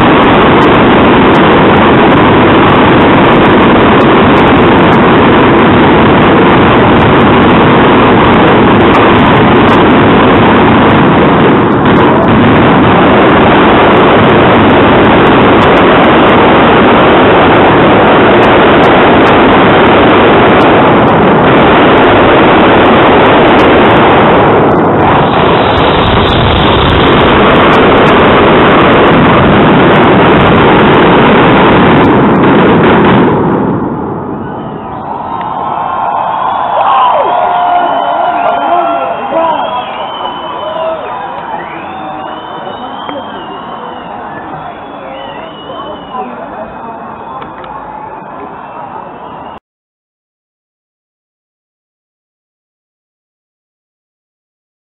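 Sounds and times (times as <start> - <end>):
fireworks bangs and crackle: 0.0 - 49.6.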